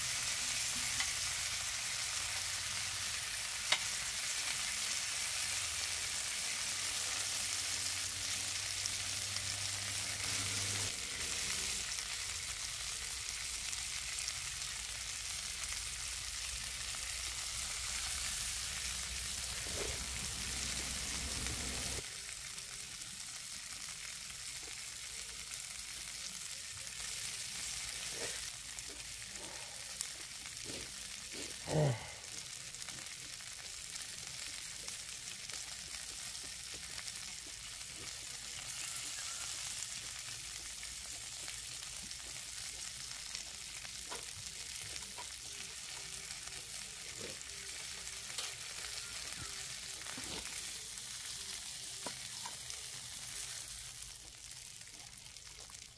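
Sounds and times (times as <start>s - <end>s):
meat sizzling on a griddle: 0.0s - 55.9s.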